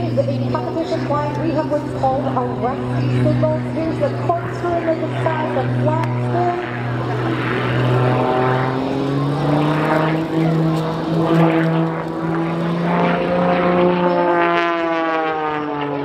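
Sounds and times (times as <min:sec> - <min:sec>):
plane engine and propeller roaring: 0:00.0 - 0:16.0.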